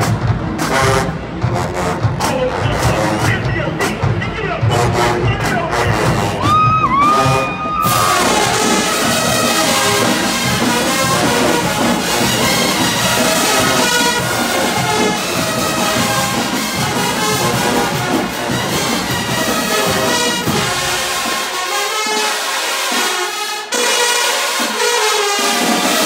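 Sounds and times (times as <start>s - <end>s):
brass section: 0.0s - 26.0s
marching band playing: 0.0s - 26.0s.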